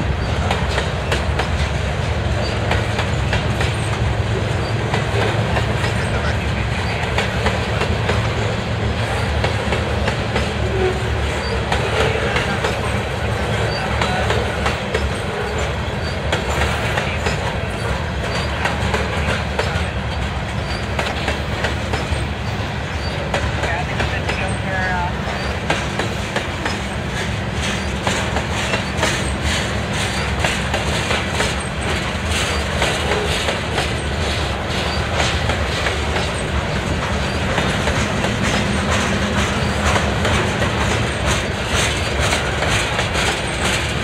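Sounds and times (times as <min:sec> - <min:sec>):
freight train wheels rumbling: 0:00.0 - 0:44.0
wheels clickety-clack: 0:00.0 - 0:44.0.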